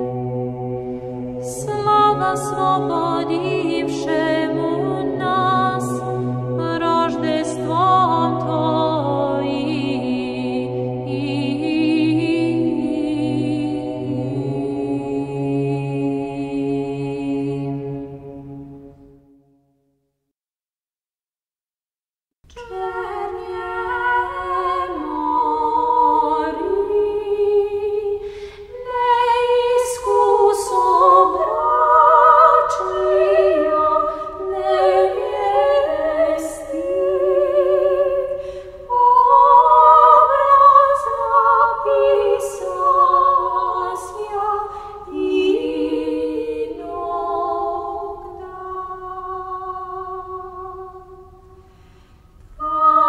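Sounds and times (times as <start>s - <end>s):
unaccompanied choir singing chant: 0.0s - 18.7s, 22.6s - 51.3s, 52.6s - 53.0s.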